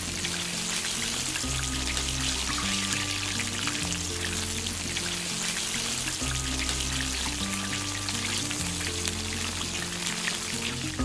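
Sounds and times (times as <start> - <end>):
background music: 0.0 - 11.0
crackling sizzle of deep-frying: 0.0 - 11.0.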